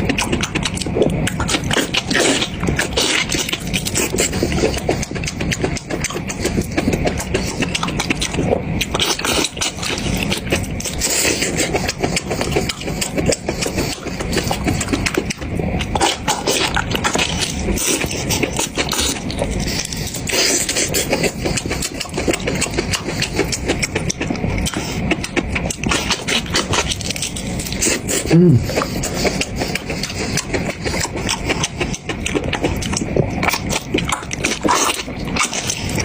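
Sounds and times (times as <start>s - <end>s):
chewing and smacking mouth noises: 0.0s - 36.0s.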